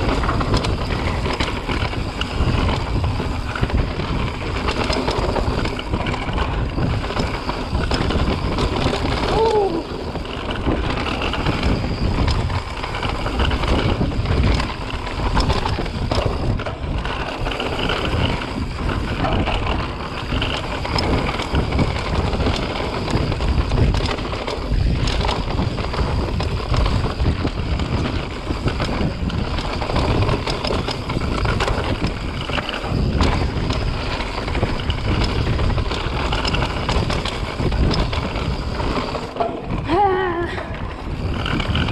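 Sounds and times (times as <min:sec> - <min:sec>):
bike tyres rumbling on dirt: 0:00.0 - 0:41.9
wind buffeting microphone: 0:00.0 - 0:41.9.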